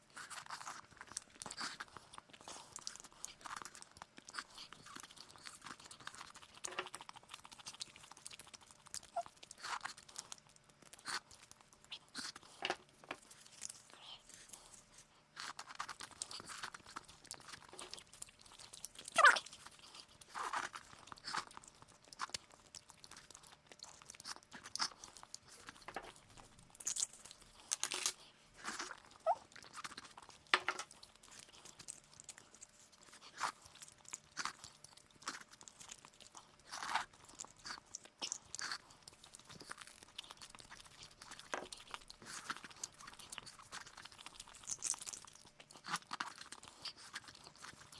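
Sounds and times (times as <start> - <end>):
wet crunching and chewing: 0.0 - 47.9.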